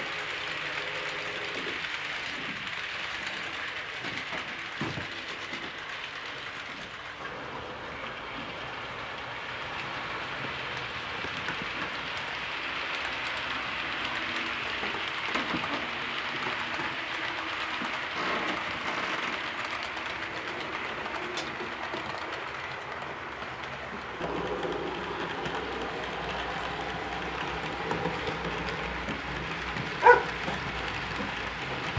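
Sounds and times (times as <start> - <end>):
model train wheels hissing on rails: 0.0 - 31.9.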